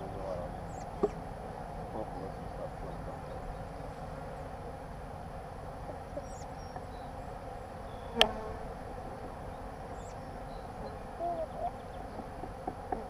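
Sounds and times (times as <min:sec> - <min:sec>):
bees buzzing: 0:00.0 - 0:13.0
single bee droning past: 0:00.0 - 0:13.0.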